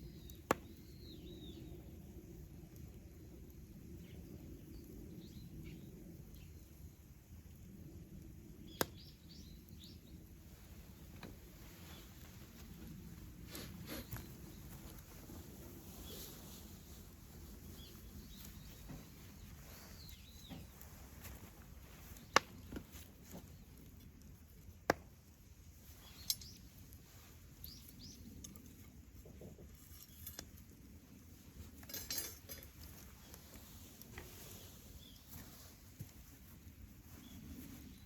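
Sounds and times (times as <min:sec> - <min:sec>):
campfire crackling: 0:00.0 - 0:38.0
fire pops: 0:00.1 - 0:01.8, 0:08.2 - 0:38.0.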